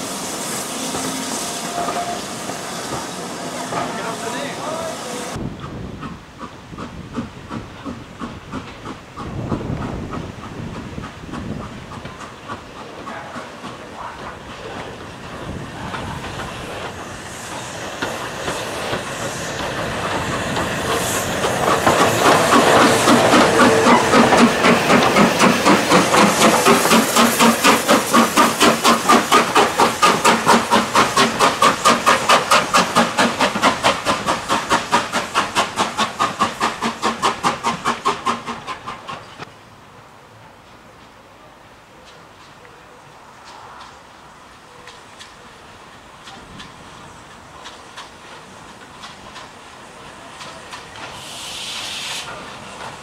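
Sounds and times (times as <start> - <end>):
hiss of steam: 0.0 - 39.5, 42.1 - 53.0
steam locomotive chuffing: 0.0 - 39.5, 43.4 - 53.0.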